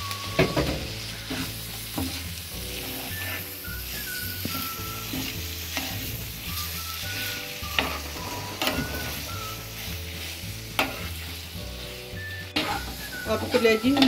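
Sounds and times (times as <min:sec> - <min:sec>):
liver sizzling on a pan: 0:00.0 - 0:14.0
spatula scraping and knocking pan: 0:00.3 - 0:14.0.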